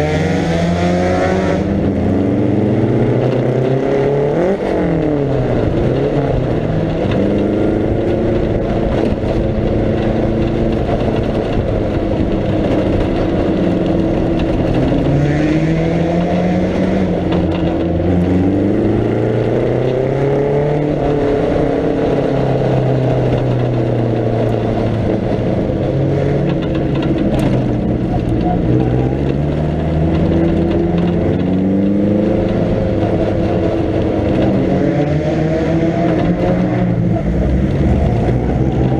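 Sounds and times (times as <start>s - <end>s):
racing engine accelerating hard: 0.0s - 38.9s.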